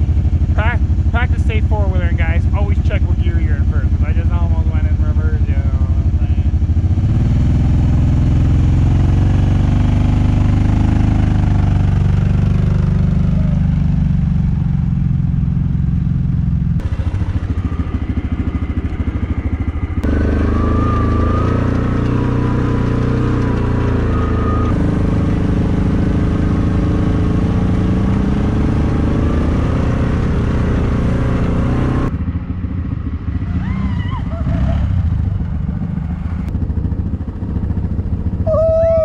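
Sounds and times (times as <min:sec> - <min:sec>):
atv engines running: 0:00.0 - 0:39.0.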